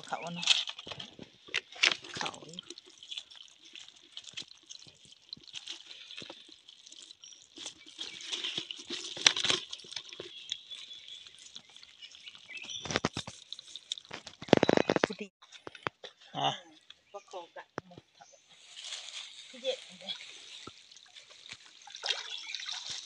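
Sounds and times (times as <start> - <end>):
wet net bag rustling: 0.0 - 15.2, 18.6 - 23.0.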